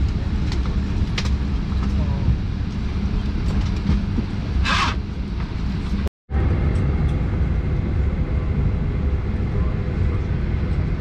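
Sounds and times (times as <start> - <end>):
aircraft cabin air system rumble: 0.0 - 11.0.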